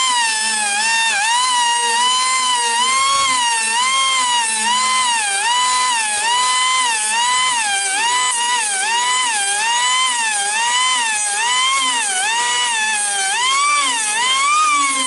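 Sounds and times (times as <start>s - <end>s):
air grinder whining: 0.0s - 15.0s.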